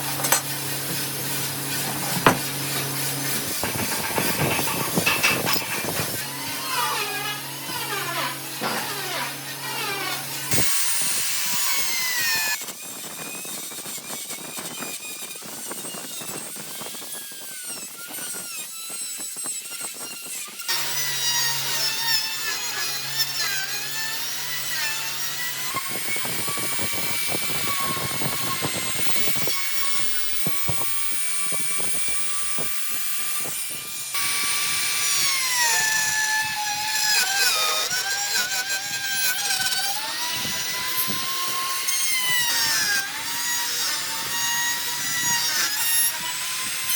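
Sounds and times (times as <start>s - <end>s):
power tools whining cutting wood: 0.0s - 46.9s.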